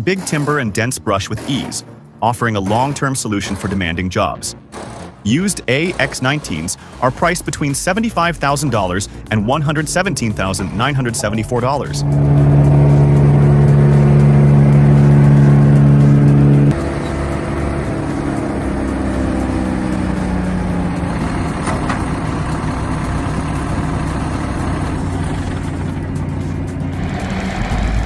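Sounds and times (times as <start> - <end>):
machine engine running at high speed: 0.0 - 28.0.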